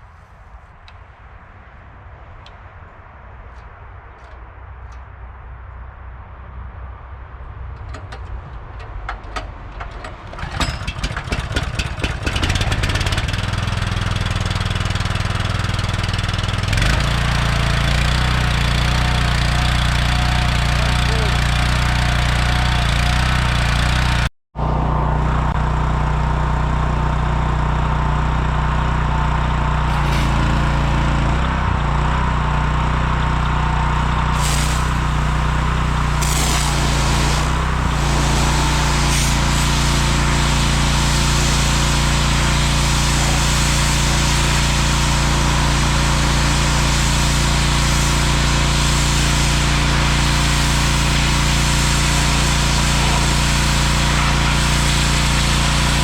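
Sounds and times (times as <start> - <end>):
pressure washer engine running: 10.4 - 56.0.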